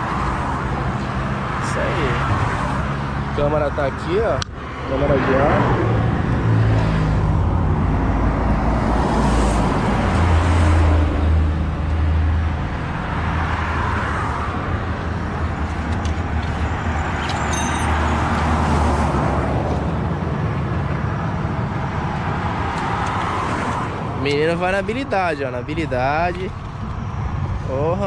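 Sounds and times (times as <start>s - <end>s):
highway traffic passing: 0.0s - 28.0s.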